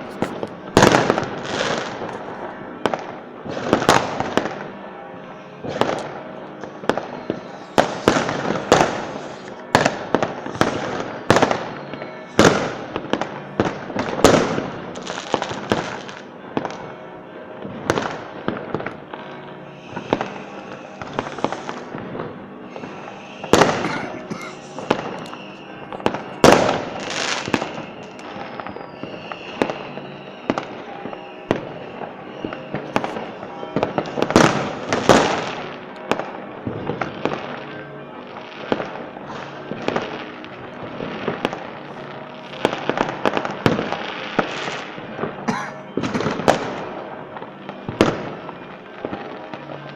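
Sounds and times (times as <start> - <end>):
fireworks bursts and bangs: 0.0 - 49.9.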